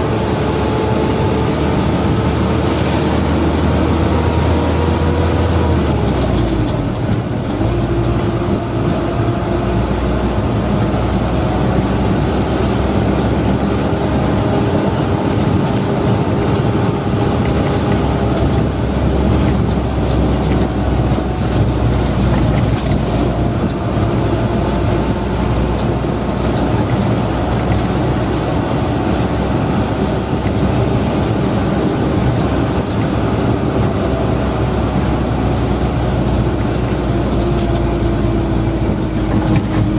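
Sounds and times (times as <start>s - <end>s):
drivetrain whine: 0.0s - 39.9s
truck engine running: 0.0s - 39.9s.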